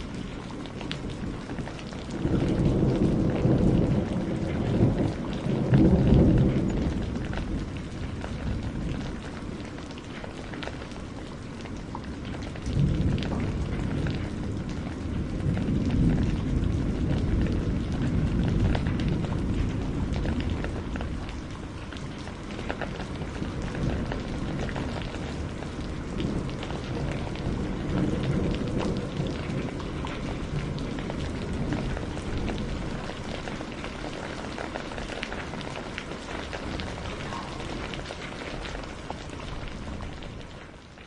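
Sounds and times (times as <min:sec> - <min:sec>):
rain pattering: 0:00.0 - 0:41.0.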